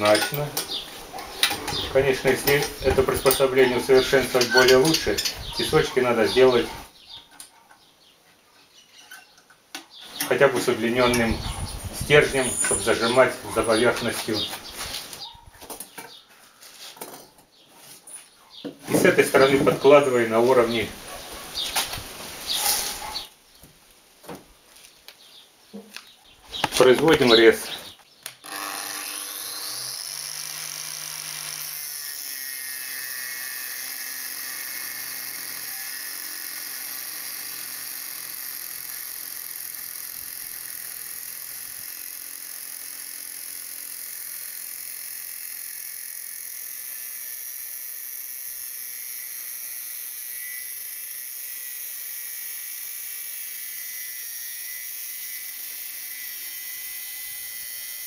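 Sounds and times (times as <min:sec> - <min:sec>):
angle grinder cutting metal: 0:00.0 - 0:06.9, 0:10.1 - 0:15.3, 0:18.9 - 0:23.3, 0:26.6 - 0:58.0.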